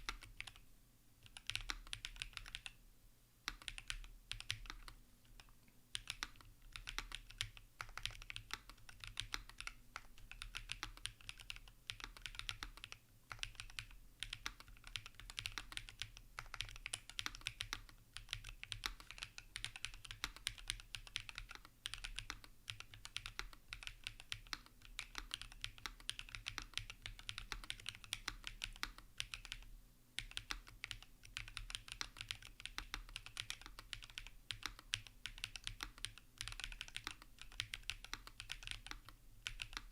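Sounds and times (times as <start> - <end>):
mechanical keyboard typing: 0.0 - 0.6, 1.2 - 2.8, 3.5 - 39.9.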